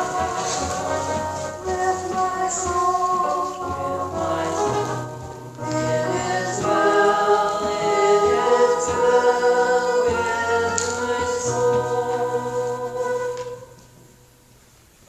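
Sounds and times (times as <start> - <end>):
choir singing with accompaniment: 0.0 - 14.2.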